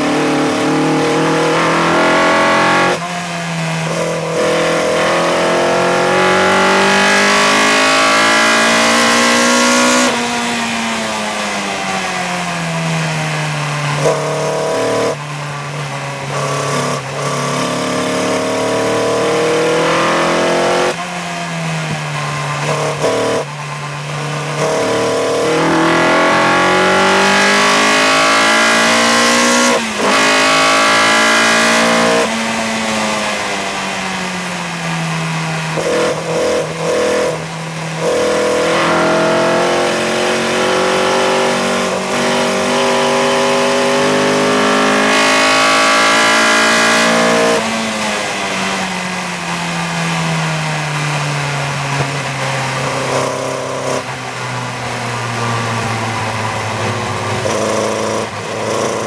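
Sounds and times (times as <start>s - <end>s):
race car engine at high speed: 0.0s - 59.0s.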